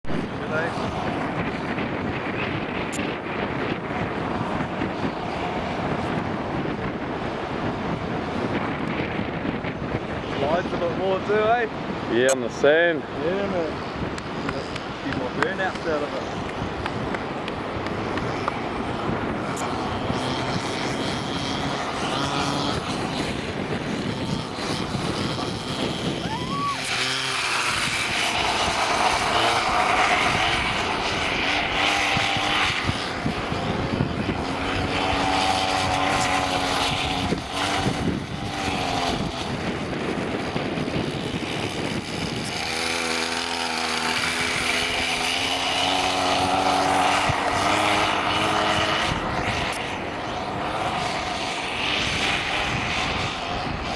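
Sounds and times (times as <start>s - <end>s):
two-stroke engine revving: 0.0s - 8.0s, 10.4s - 53.9s.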